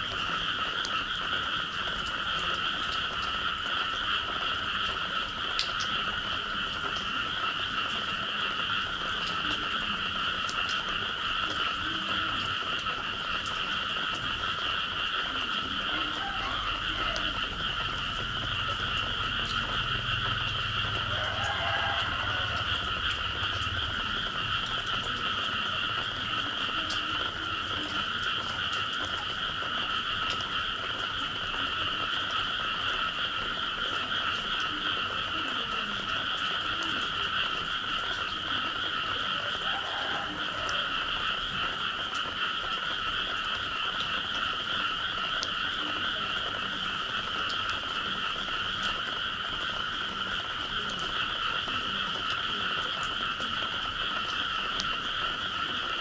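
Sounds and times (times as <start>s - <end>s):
frogs trilling: 0.0s - 56.0s
low frog croaks: 0.0s - 56.0s.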